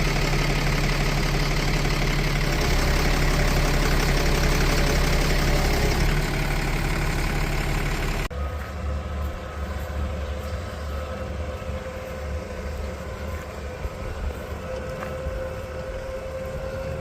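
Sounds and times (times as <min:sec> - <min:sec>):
thin steady whine: 0:00.0 - 0:17.0
tractor engine running: 0:00.0 - 0:17.0.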